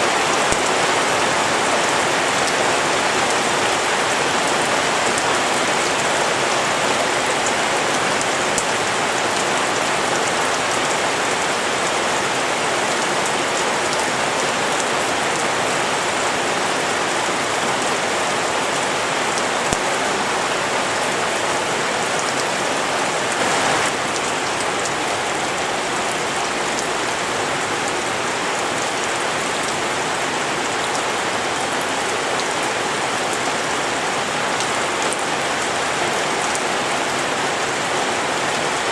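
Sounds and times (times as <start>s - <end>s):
steady rain hiss: 0.0s - 33.4s.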